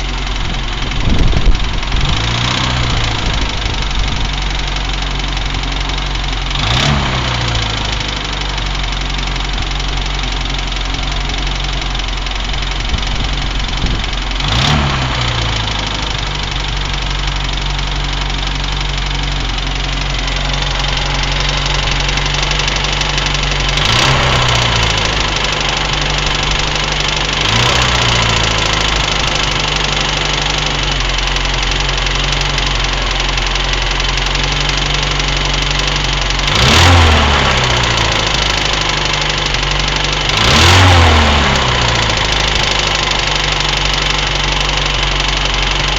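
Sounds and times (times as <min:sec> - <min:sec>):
engine idling with knock: 0:00.0 - 0:45.9
engine revving: 0:01.6 - 0:04.9, 0:05.9 - 0:08.7, 0:13.0 - 0:45.9.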